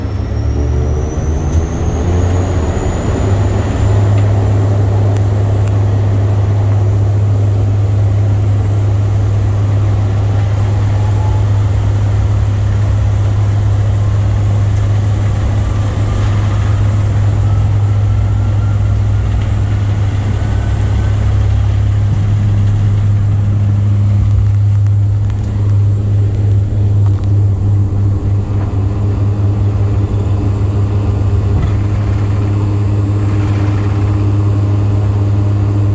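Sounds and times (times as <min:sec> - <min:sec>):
airplane engines rumbling: 0:00.0 - 0:35.9
faint rising whine: 0:00.0 - 0:35.9.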